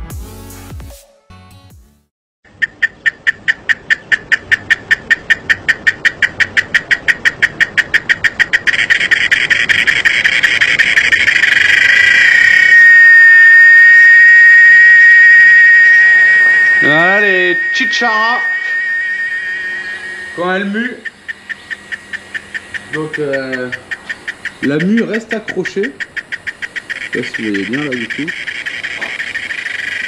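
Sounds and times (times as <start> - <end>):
cicada buzzing: 2.5 - 30.0.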